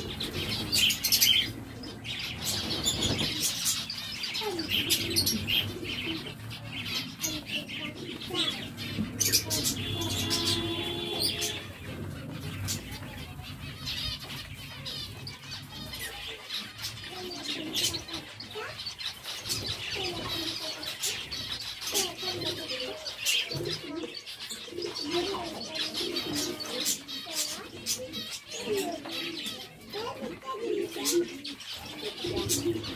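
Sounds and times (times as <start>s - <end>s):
finches chirping: 0.0s - 32.9s.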